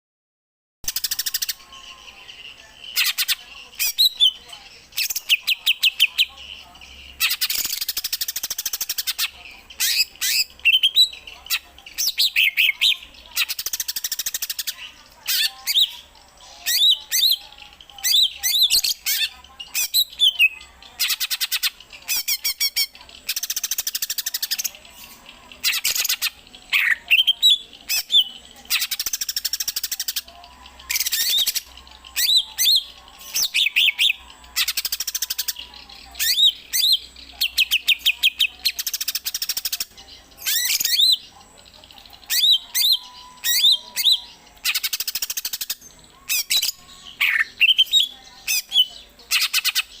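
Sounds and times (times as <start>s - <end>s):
bird singing varied song: 0.8s - 50.0s
harsh raspy bird chattering: 2.2s - 50.0s.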